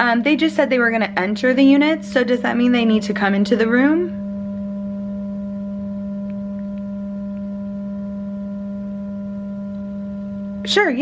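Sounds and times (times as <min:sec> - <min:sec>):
fire alarm low electronic tone: 0:00.0 - 0:11.0.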